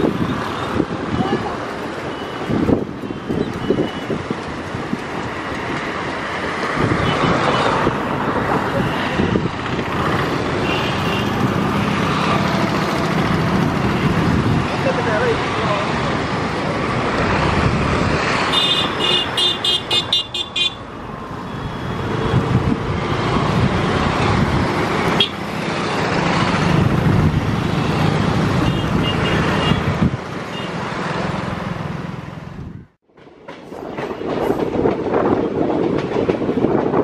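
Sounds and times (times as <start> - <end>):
moving train rumble: 0.0 - 37.0
road traffic noise: 0.0 - 37.0.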